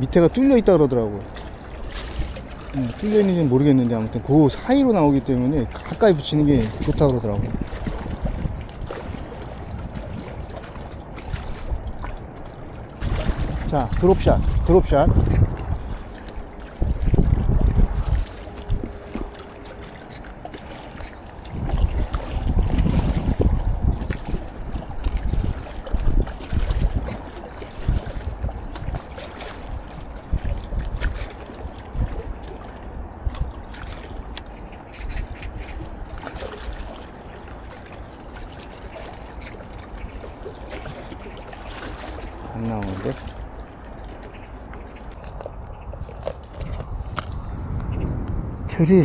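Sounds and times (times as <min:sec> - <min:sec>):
river water lapping against wall: 0:00.0 - 0:48.0
wind buffeting microphone: 0:00.0 - 0:49.0.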